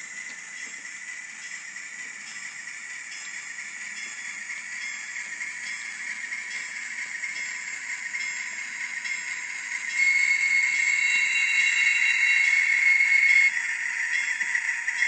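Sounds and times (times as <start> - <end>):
model train whining past: 0.0 - 15.0.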